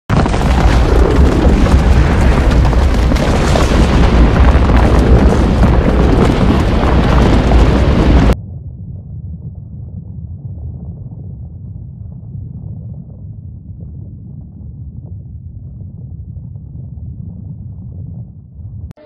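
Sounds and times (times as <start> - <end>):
volcanic eruption rumble with pops: 0.1 - 19.0.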